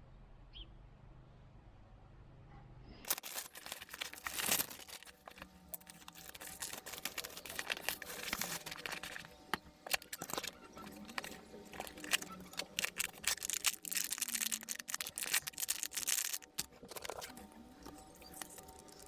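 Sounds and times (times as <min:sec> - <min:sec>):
crinkling and rustling: 0:03.0 - 0:19.0.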